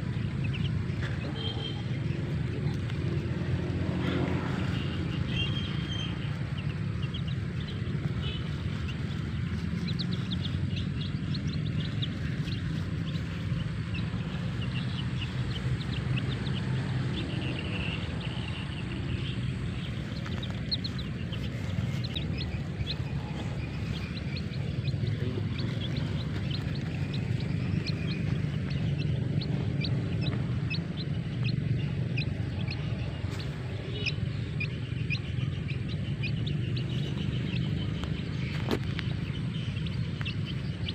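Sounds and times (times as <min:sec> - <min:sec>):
chicks peeping: 0:00.0 - 0:40.9
steady low rumble: 0:00.0 - 0:40.9.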